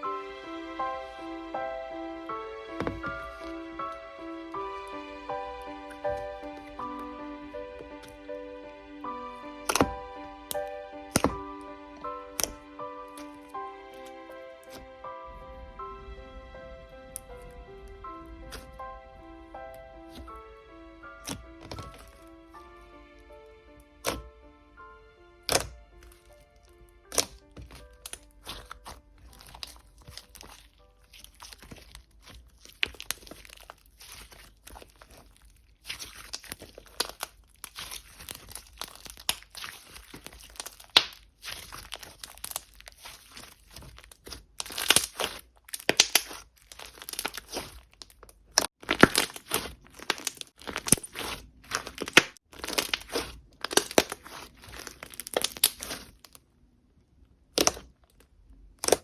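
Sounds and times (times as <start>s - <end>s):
slime clicking and crackling: 2.8s - 4.0s, 4.8s - 8.2s, 9.3s - 14.9s, 16.8s - 20.4s, 21.0s - 24.3s, 25.4s - 56.5s, 57.2s - 59.0s.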